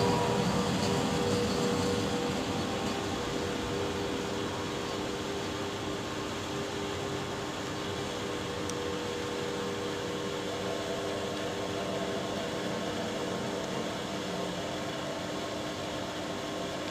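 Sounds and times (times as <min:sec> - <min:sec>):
electric locomotive humming: 0:00.0 - 0:16.9.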